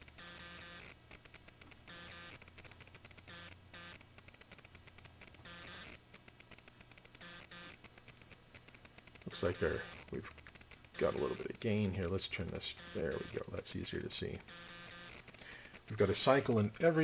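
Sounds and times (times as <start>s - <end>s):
buzzing hum: 0.0s - 17.0s
faint crackling static: 0.0s - 17.0s.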